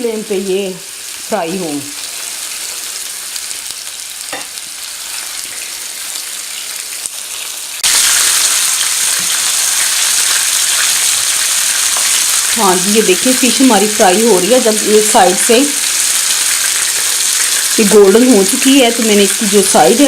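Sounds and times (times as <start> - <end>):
fish sizzling in a pan: 0.0 - 20.0.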